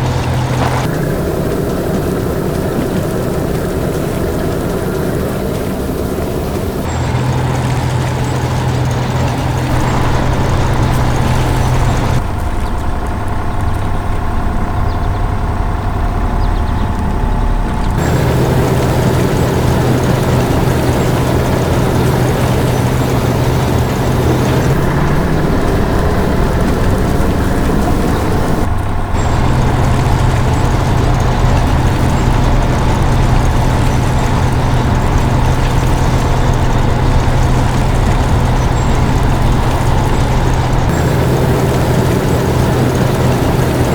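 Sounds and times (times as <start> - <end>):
construction machine engine running: 0.0 - 43.9.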